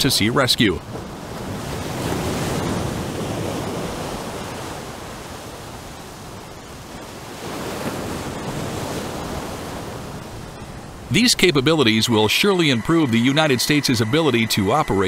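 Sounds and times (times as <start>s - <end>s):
sea: 0.0s - 15.0s
wind: 0.0s - 15.0s.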